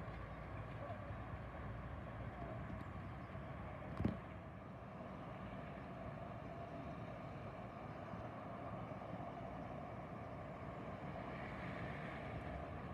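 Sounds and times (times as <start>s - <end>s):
distant city traffic: 0.0s - 12.9s.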